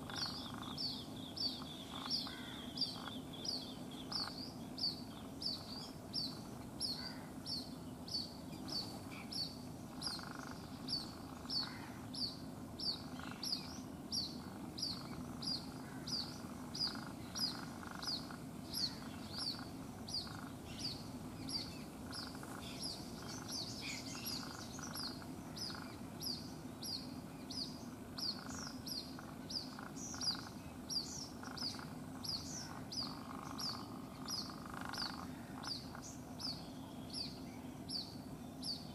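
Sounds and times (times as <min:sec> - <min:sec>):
bird chick peeping: 0:00.0 - 0:38.9.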